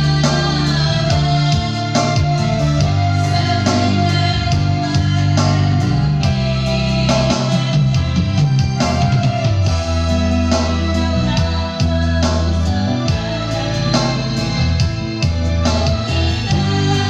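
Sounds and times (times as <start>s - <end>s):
guitar-led instrumental music: 0.0s - 17.0s.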